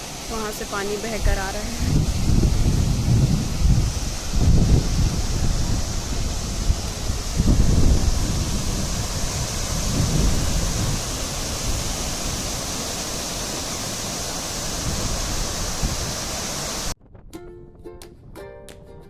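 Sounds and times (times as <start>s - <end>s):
waterfall rushing: 0.0s - 17.0s
wind buffeting microphone: 0.5s - 19.0s.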